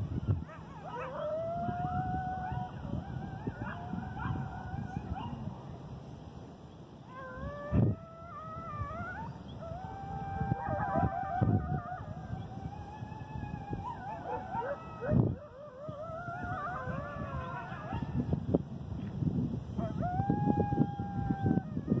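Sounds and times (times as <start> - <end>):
coyotes howling and yipping: 0.0 - 6.2, 6.9 - 18.5, 19.6 - 22.0.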